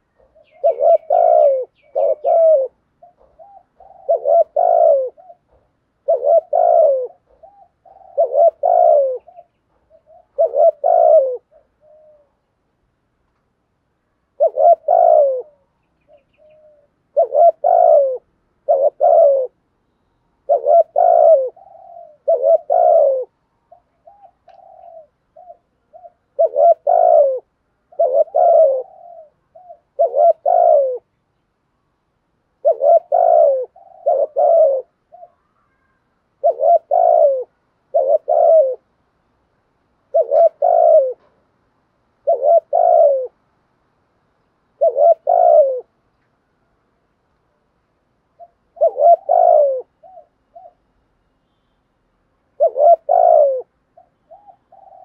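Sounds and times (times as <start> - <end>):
dove cooing: 0.0 - 12.5, 14.3 - 19.6, 20.4 - 31.1, 32.6 - 39.0, 40.0 - 41.5, 42.2 - 43.4, 44.7 - 46.0, 48.3 - 51.0, 52.5 - 55.0.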